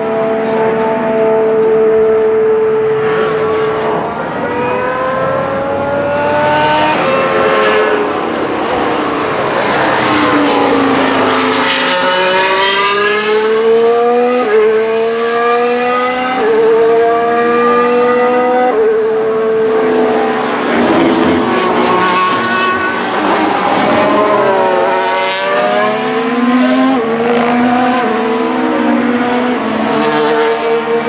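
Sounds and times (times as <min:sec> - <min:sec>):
racing car engine at high revs: 0:00.0 - 0:31.0.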